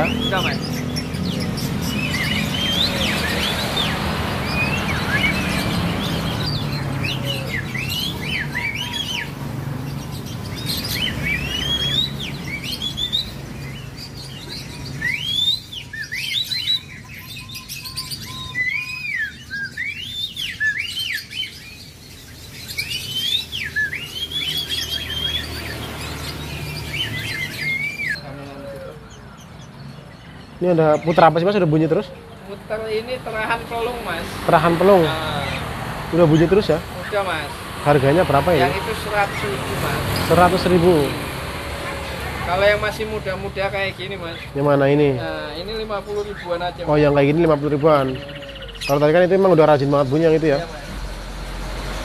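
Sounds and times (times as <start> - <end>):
songbirds chirping and singing: 0.0 - 52.0.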